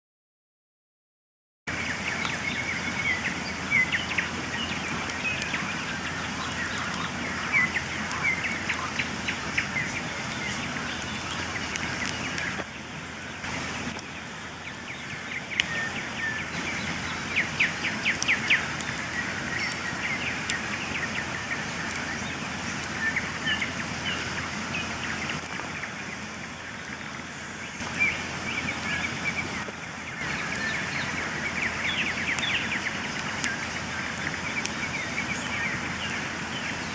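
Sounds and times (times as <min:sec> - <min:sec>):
campfire crackling and popping: 0:01.7 - 0:36.9.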